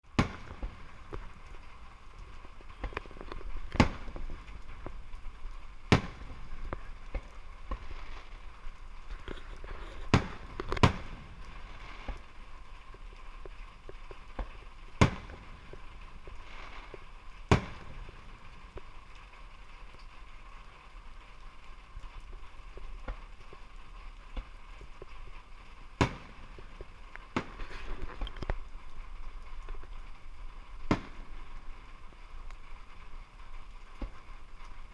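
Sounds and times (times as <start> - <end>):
fireworks banging: 0.0 - 34.9
small firework pops: 0.0 - 34.9.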